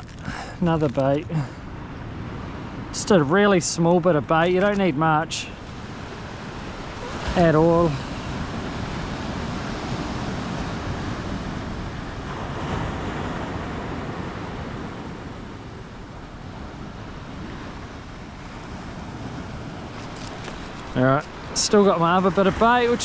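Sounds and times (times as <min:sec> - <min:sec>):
surf washing onto beach: 0:00.0 - 0:23.0
wind on microphone: 0:04.2 - 0:23.0.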